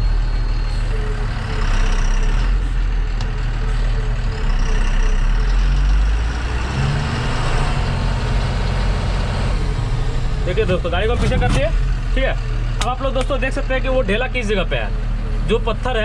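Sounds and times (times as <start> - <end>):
diesel truck engine reversing: 0.0 - 16.0.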